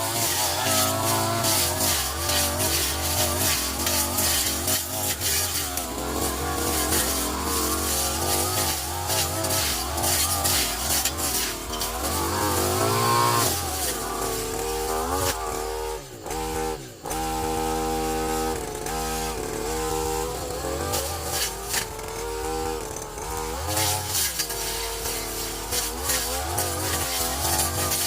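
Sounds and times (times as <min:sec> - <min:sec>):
brushcutter engine revving: 0:00.0 - 0:28.0.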